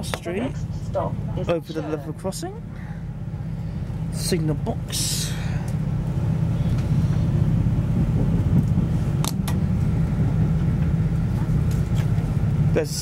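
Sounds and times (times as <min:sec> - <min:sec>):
train engine rumble: 0:00.0 - 0:13.0.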